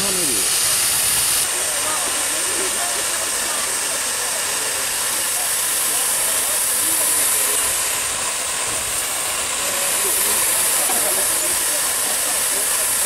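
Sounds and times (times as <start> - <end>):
steam hissing from locomotive: 0.0 - 13.0.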